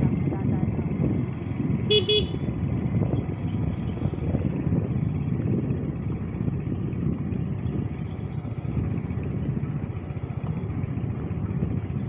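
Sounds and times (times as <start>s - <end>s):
motor scooter engine rumble: 0.0s - 12.0s
wind buffeting microphone: 0.0s - 12.0s.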